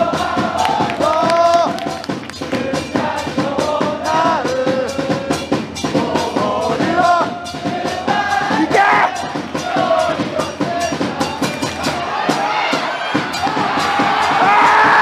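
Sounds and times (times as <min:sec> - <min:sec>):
crowd chanting in unison: 0:00.0 - 0:15.0
steady drumbeat: 0:00.0 - 0:15.0.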